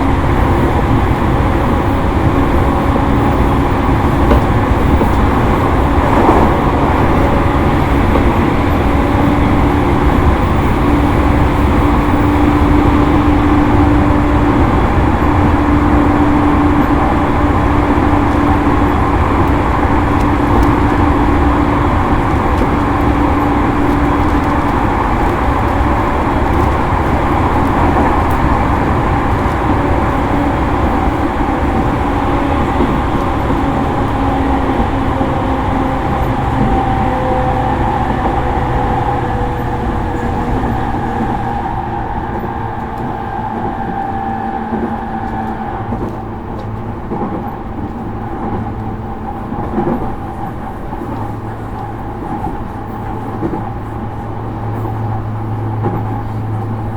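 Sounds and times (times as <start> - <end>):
traction motor hum: 0.0 - 56.9
train wheels rumbling on rail: 0.0 - 56.9.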